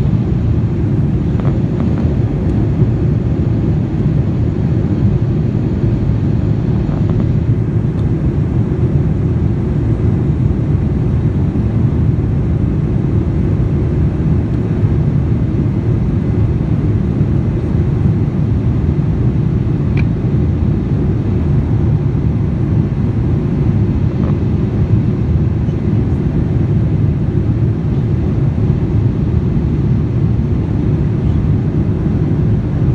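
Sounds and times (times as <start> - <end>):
airliner cabin engine rumble: 0.0 - 32.9.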